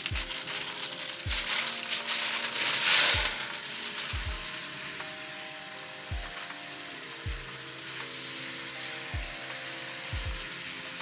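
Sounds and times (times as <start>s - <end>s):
sauce sizzling and crackling: 0.0s - 11.0s.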